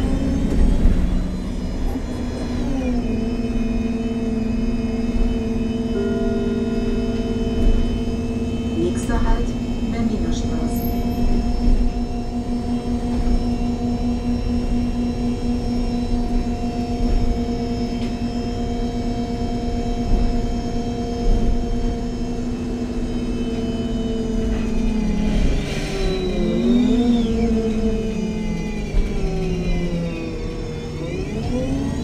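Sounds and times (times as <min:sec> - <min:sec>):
bus engine rumble and whine: 0:00.0 - 0:32.0.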